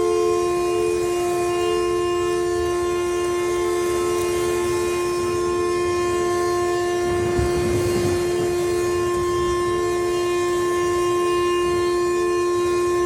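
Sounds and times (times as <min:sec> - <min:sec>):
tornado warning siren: 0:00.0 - 0:13.0.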